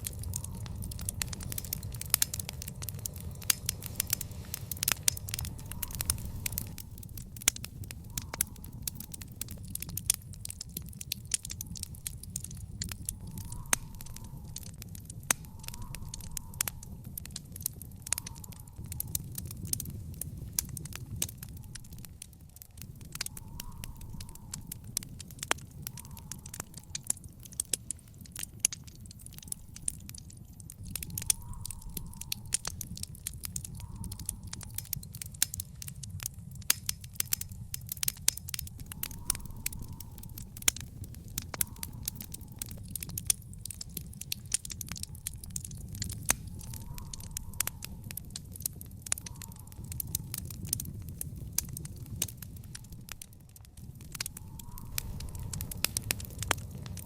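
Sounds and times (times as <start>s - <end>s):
flame rumble: 0.0s - 57.0s
wood fire crackling and popping: 0.0s - 57.0s.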